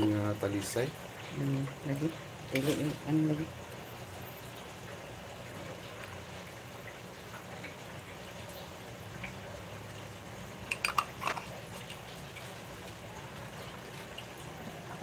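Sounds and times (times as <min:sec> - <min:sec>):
water splashes and drips: 0:00.0 - 0:15.0.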